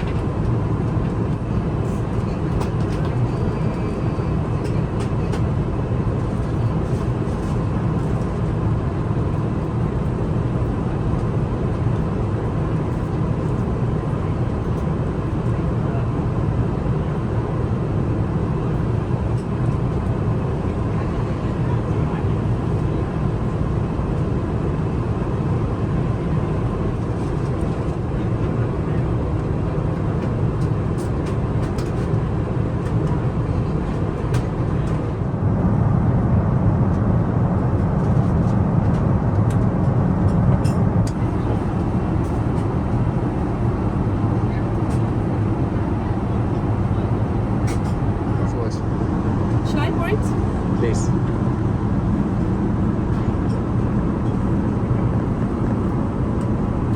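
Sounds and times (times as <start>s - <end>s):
airliner cabin rumble: 0.0s - 56.9s.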